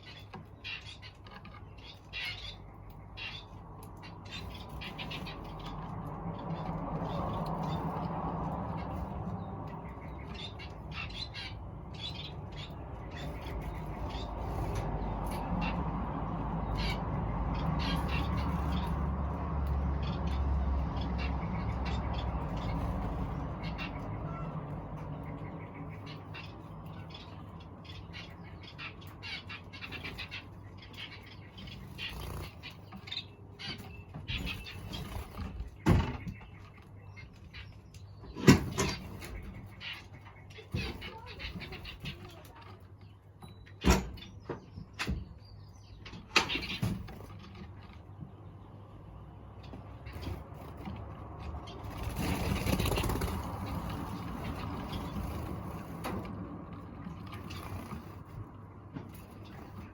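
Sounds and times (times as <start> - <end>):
bird chirps and squawks: 0.0 - 19.3, 20.0 - 36.5, 37.1 - 42.9, 51.6 - 59.9.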